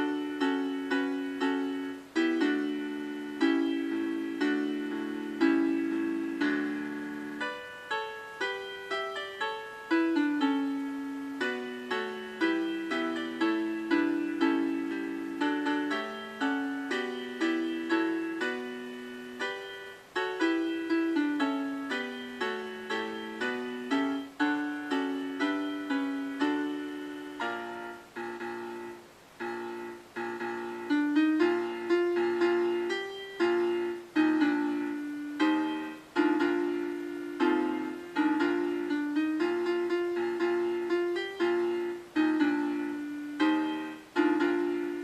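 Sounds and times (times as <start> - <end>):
slow piano hymn: 0.0 - 45.0.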